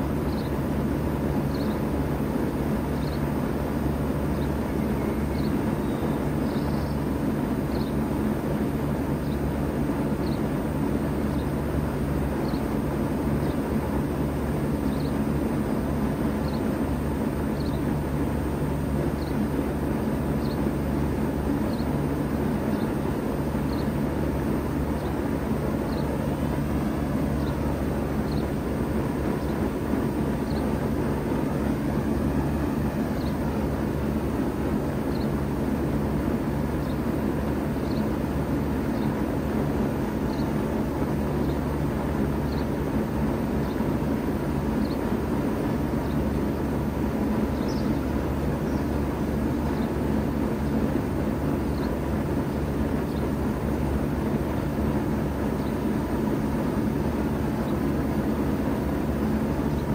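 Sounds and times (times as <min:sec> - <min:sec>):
heat pump humming: 0:00.0 - 0:59.9.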